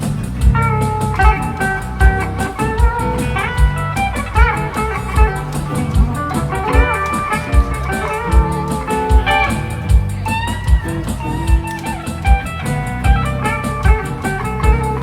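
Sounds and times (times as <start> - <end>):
bass drum beat: 0.0 - 15.0
lead guitar with bent notes: 0.0 - 15.0
live band playing instrumental: 0.0 - 15.0.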